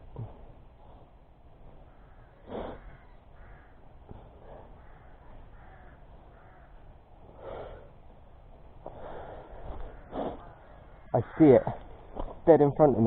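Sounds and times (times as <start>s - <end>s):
harsh bird calls: 1.6s - 8.0s, 8.8s - 13.0s.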